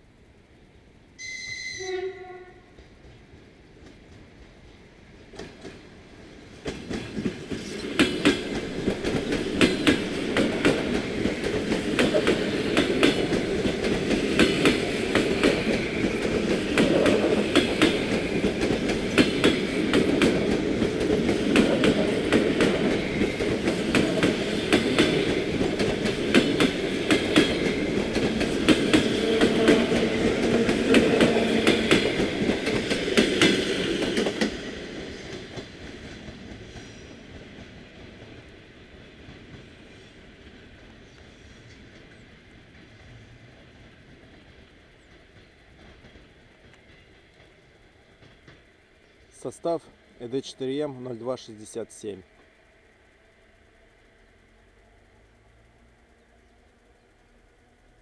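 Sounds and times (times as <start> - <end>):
train rumble: 1.8 - 58.0
train wheels clicking over rail joints: 2.6 - 58.0.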